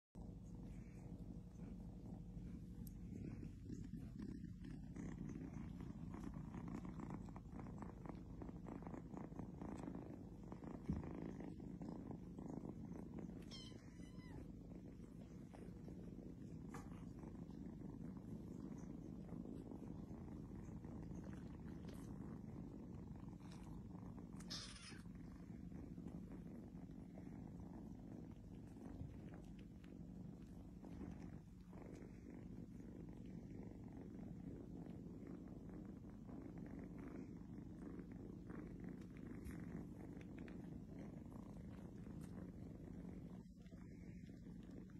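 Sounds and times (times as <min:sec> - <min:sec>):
kittens purring: 0:00.0 - 0:44.9.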